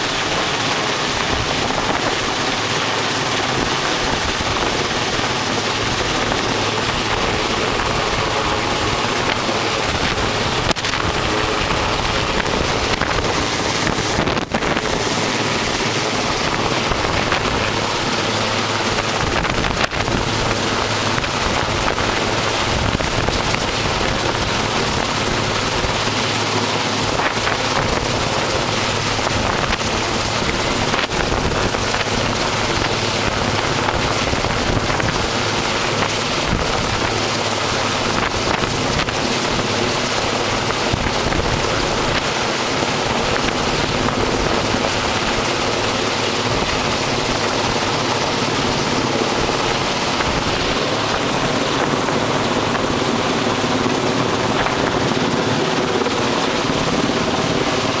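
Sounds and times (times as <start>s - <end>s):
helicopter hovering overhead: 0.0s - 58.0s.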